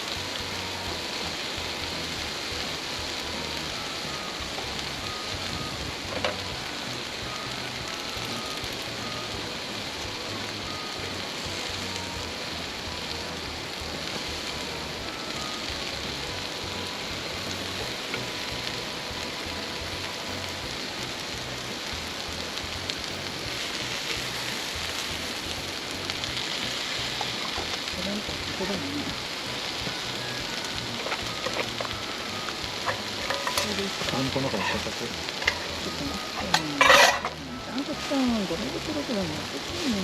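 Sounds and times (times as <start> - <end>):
faint music: 0.0 - 40.0
food sizzling on a grill: 0.0 - 40.0.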